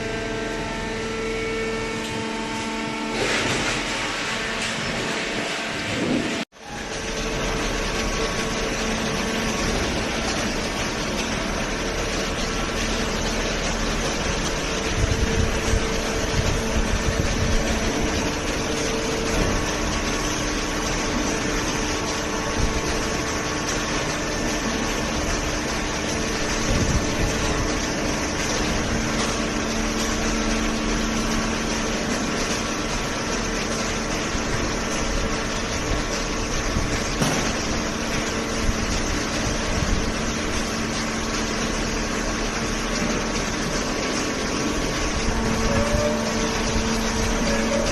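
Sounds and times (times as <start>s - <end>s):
baler motor humming: 0.0s - 47.9s
loud mechanical knocks: 1.9s - 47.9s.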